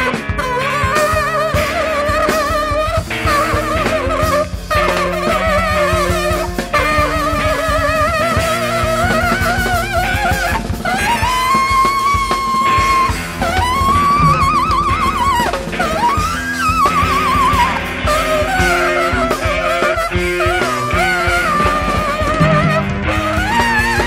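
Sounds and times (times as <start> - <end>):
busy drumming: 0.0 - 24.0
electric guitar: 0.0 - 24.0
saxophone: 0.0 - 24.0.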